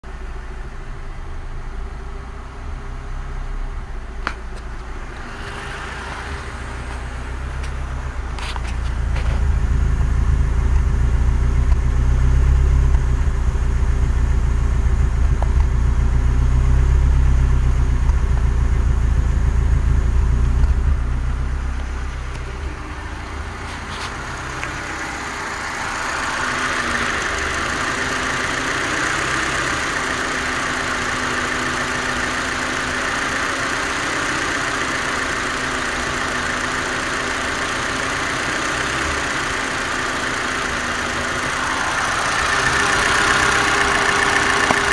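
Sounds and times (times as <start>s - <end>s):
car engine idling roughly: 0.0s - 44.9s.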